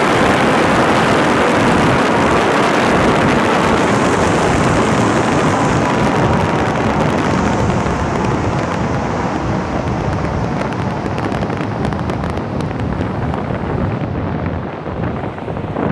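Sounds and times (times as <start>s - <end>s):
wind rushing with buffeting: 0.0s - 15.9s.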